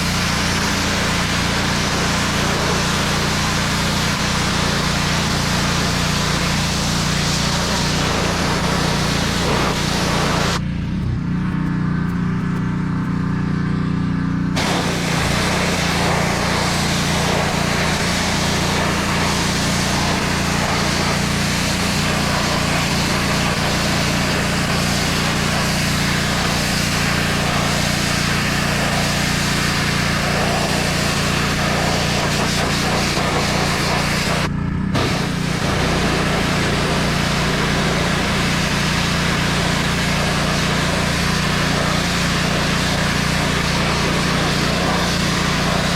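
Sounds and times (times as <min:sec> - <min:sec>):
high-pressure water jet hissing: 0:00.0 - 0:10.6, 0:14.6 - 0:45.9
pressure washer engine running: 0:00.0 - 0:45.9.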